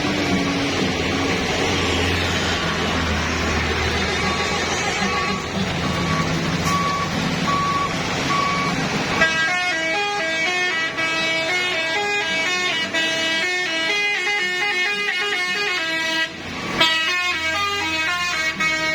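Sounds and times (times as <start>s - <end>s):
heavy truck running: 0.0s - 18.9s
road noise: 0.0s - 18.9s
multi-tone horn playing a tune: 0.8s - 6.9s, 8.4s - 18.9s.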